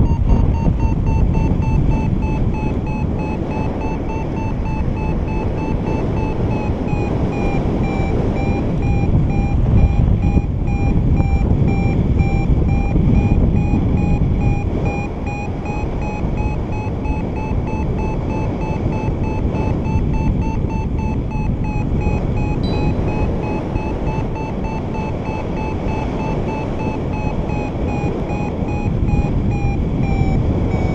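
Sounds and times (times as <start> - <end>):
variometer short beeps: 0.0 - 30.9
wind noise on microphone: 0.0 - 30.9.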